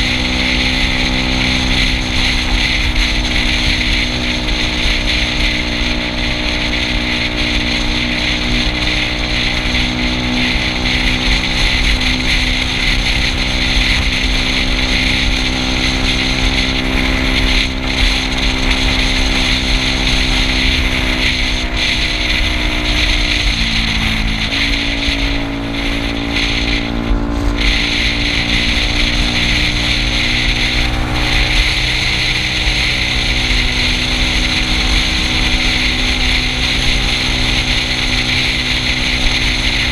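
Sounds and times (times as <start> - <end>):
scooter engine running: 0.0 - 39.9
wind rushing: 0.0 - 39.9.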